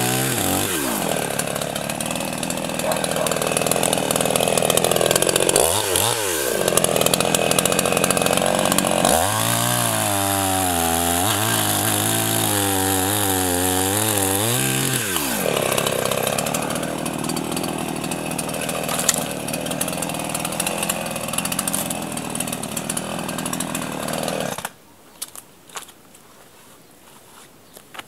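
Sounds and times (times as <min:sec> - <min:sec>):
chainsaw cutting a branch: 0:00.0 - 0:24.8.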